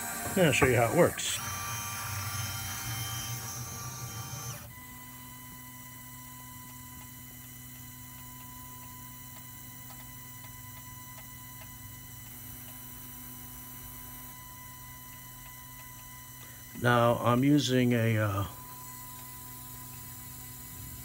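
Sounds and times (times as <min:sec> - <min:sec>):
mill motors running: 0:00.0 - 0:21.0
steady electrical hum: 0:00.0 - 0:21.0.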